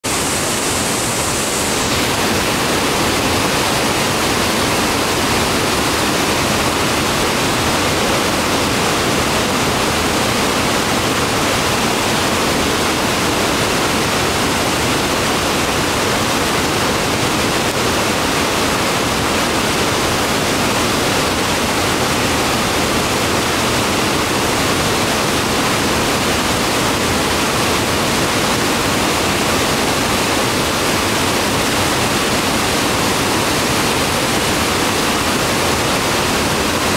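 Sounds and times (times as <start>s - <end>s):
waterfall rushing over rocks: 0.0s - 36.9s.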